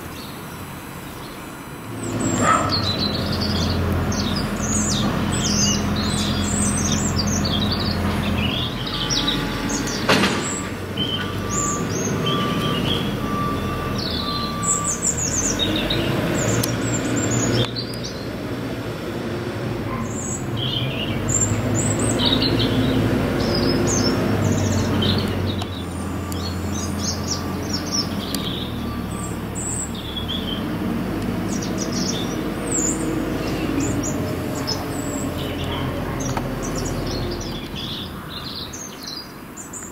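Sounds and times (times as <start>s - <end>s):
small birds chirping: 0.0s - 18.6s, 19.9s - 39.9s
low background hum: 0.0s - 39.4s.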